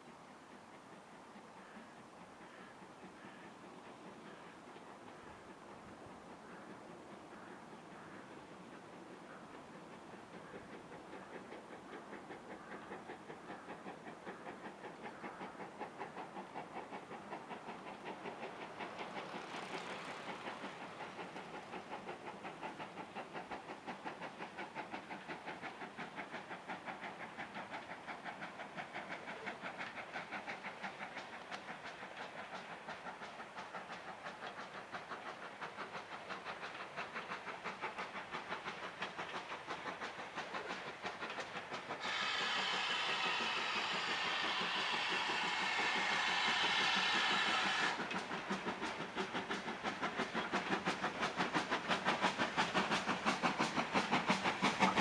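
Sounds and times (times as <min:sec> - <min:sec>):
steam hiss: 0:00.0 - 0:55.0
steam locomotive exhaust beats: 0:00.0 - 0:55.0.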